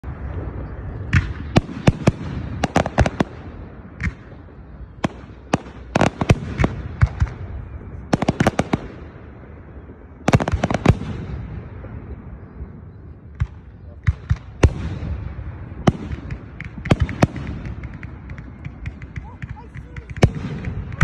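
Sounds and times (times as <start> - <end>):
fireworks bursting with sharp bangs: 0.0 - 21.0.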